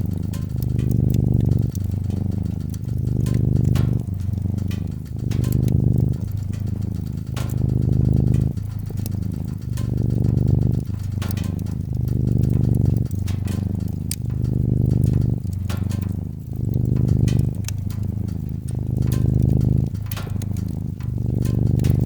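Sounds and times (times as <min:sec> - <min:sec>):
cat purring: 0:00.0 - 0:22.0
wood fire crackling and popping: 0:00.0 - 0:22.0.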